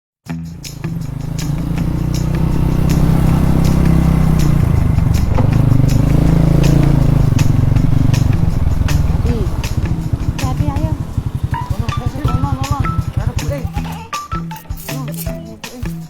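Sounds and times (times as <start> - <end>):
engine running steadily: 0.5 - 14.0.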